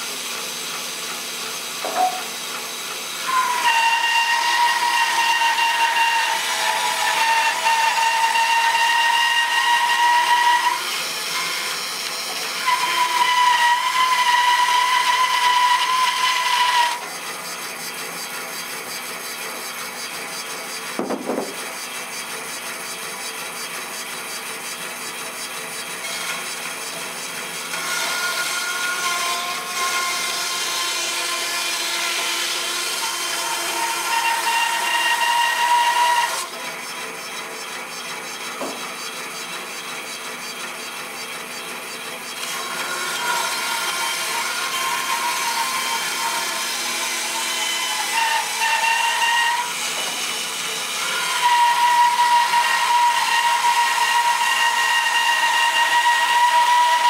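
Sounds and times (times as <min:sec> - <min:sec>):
bandsaw cutting log: 0:00.0 - 0:57.0.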